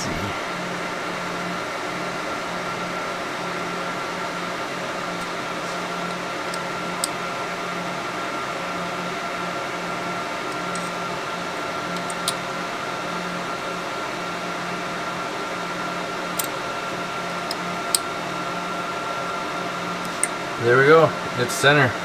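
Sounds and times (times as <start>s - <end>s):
machine fan hum: 0.0s - 22.0s.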